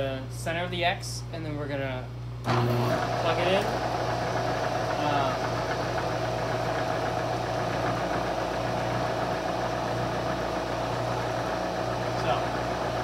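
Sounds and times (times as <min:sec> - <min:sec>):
milling machine humming: 0:02.4 - 0:13.0.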